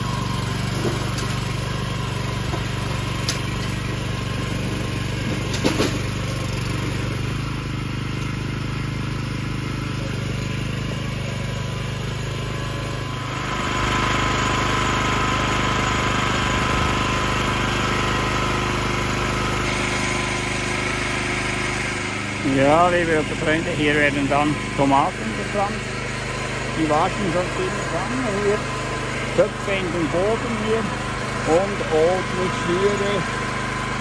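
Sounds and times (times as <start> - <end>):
high engine whine: 0.0 - 34.0
tiller engine running: 0.0 - 34.0.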